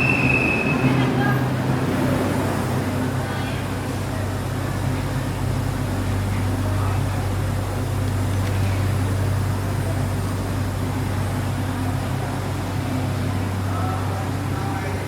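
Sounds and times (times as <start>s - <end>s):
train interior hum and rumble: 0.0s - 15.0s.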